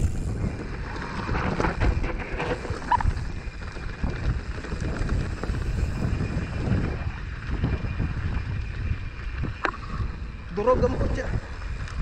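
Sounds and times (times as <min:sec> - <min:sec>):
bike rattling and knocking: 0:00.0 - 0:12.0
wind buffeting microphone: 0:00.0 - 0:12.0.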